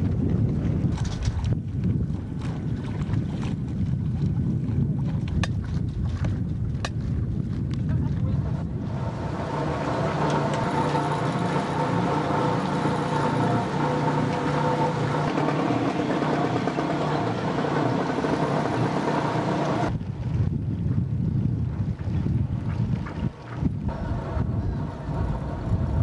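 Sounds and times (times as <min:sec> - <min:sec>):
boat engine running: 0:00.0 - 0:26.0
wind buffeting microphone: 0:00.0 - 0:26.0.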